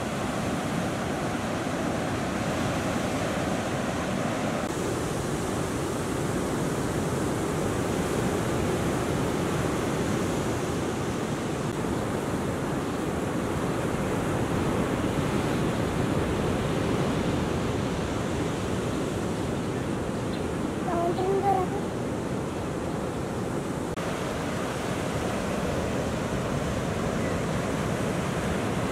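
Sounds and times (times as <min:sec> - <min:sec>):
ocean waves breaking: 0:00.0 - 0:28.9.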